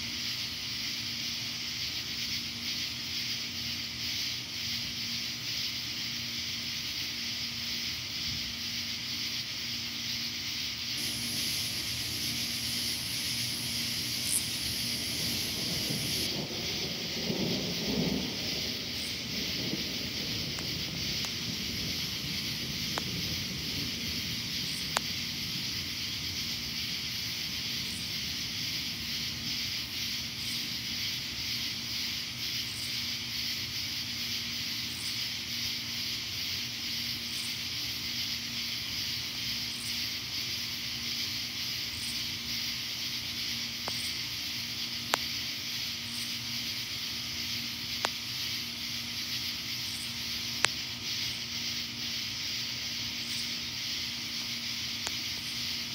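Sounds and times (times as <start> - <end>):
insect chorus hiss: 0.0 - 55.9.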